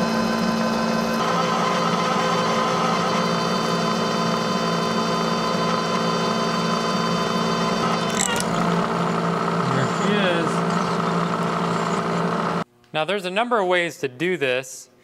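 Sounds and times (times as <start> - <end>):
milling machine motor hum with whine: 0.0 - 12.6.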